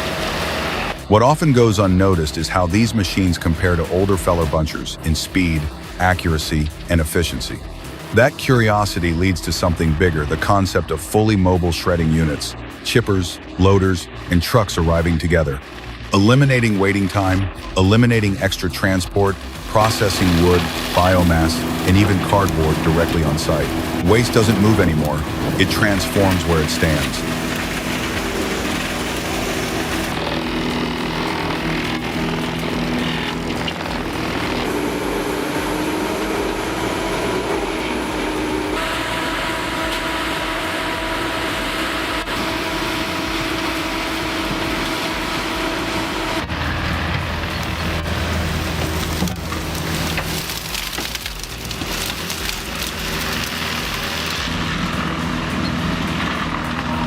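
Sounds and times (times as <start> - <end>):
wood chipper engine running: 0.0 - 57.0
wood crackling and splintering: 0.0 - 57.0.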